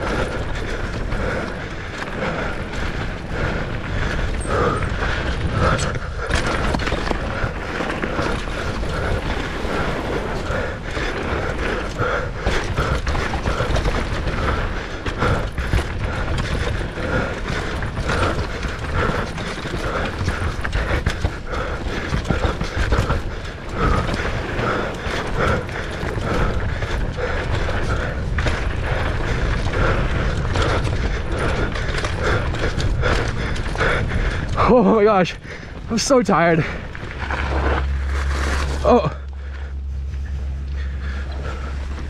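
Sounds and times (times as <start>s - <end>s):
low rumble: 0.0s - 42.0s
mountain bike rattling: 0.0s - 42.0s.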